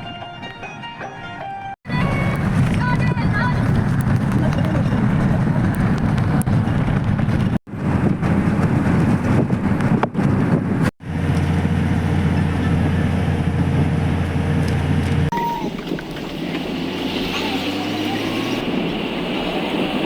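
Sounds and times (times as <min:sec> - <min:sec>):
vehicle engine and road drone: 0:01.9 - 0:20.0.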